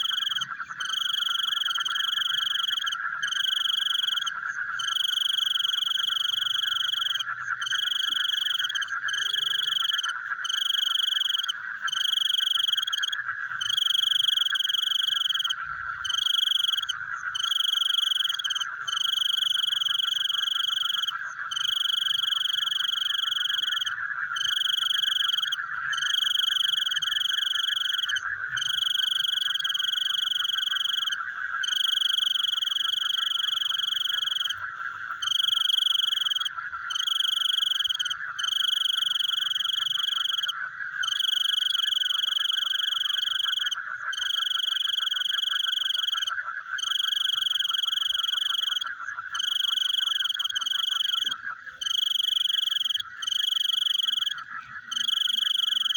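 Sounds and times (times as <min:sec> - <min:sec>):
frogs trilling: 0:00.0 - 0:55.9.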